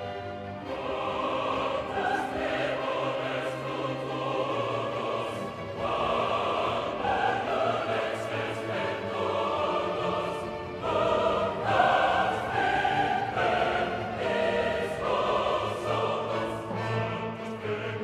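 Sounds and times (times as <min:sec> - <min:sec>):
classical choral singing: 0:00.0 - 0:18.0.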